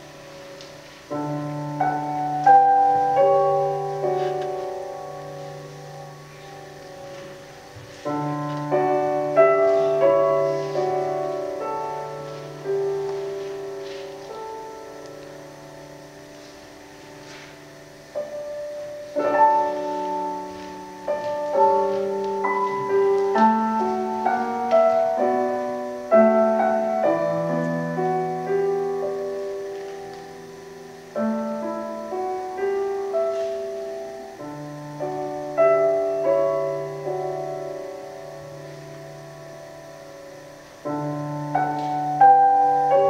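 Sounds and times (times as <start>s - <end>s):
piano chords: 0.0s - 43.0s.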